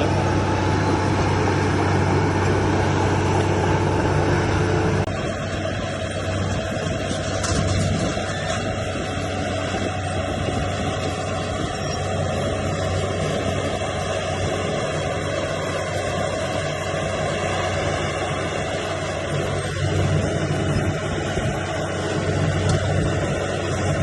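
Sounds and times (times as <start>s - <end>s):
diesel engine of heavy machinery: 0.0s - 24.0s.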